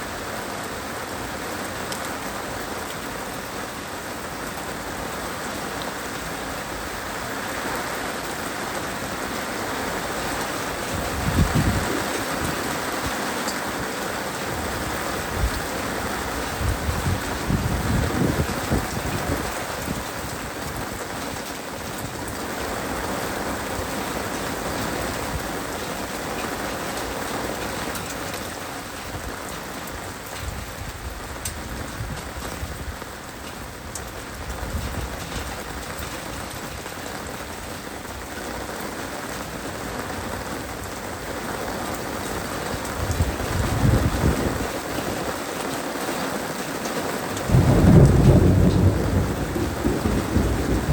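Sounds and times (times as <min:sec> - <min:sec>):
heavy rain hiss: 0:00.0 - 0:50.9.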